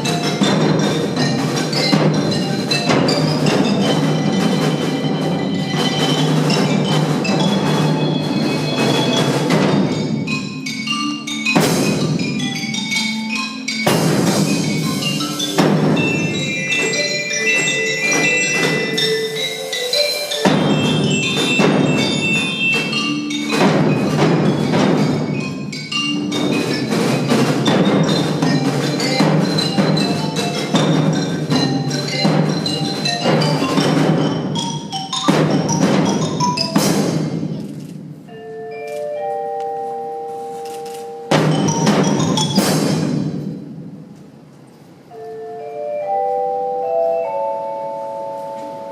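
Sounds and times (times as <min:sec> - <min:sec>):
drum and cymbal strokes: 0:00.0 - 0:38.0, 0:41.3 - 0:44.2
mallet percussion melody: 0:00.0 - 0:48.9.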